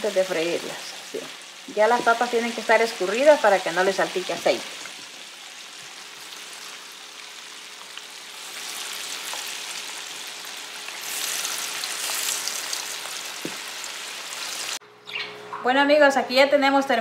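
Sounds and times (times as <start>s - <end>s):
potatoes sizzling in hot oil: 0.0s - 14.8s.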